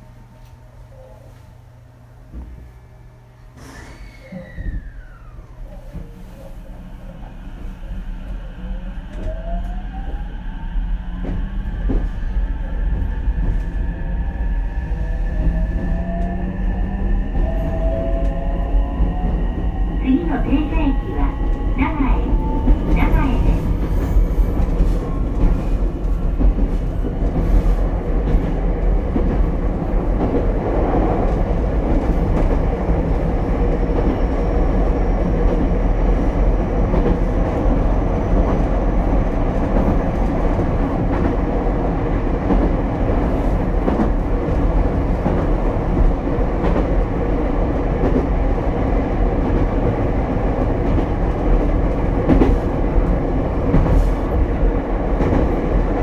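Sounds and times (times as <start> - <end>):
train wheels on rails: 9.1 - 56.0.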